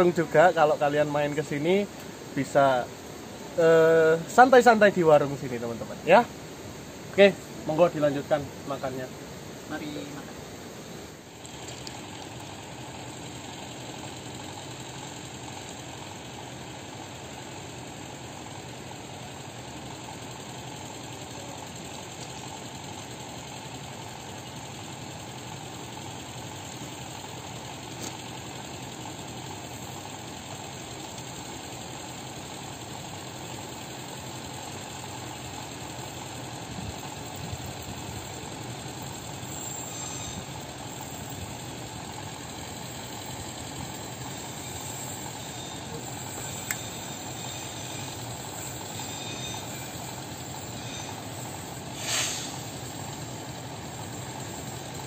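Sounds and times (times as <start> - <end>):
locomotive engine droning: 0.0 - 55.0.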